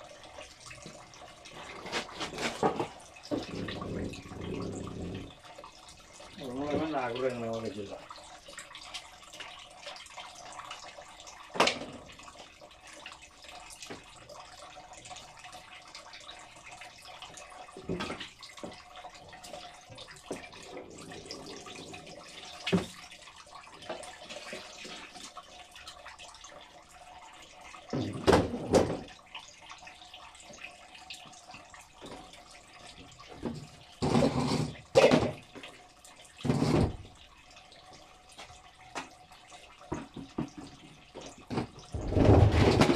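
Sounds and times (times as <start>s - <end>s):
liquid trickling and dripping: 0.0s - 42.9s.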